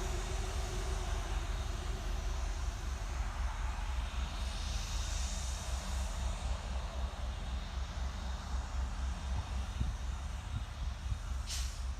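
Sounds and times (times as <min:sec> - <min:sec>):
freight train passing: 0:00.0 - 0:11.9.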